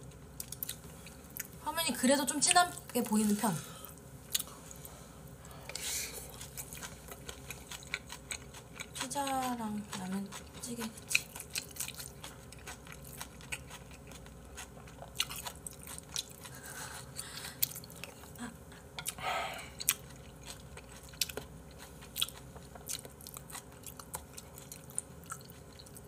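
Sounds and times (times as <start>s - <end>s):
man chewing and mouth sounds: 0.0s - 1.6s, 3.9s - 26.0s.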